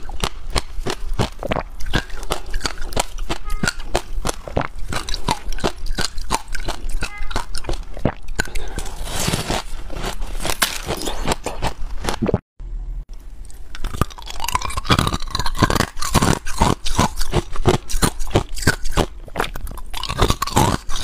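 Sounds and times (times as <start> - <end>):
frost being chewed: 0.0 - 12.4, 13.4 - 21.0.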